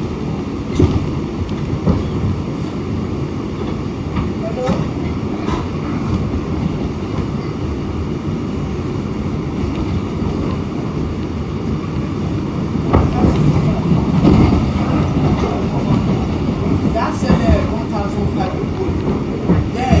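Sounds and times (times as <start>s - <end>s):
subway wheels rumbling on rail: 0.0s - 20.0s.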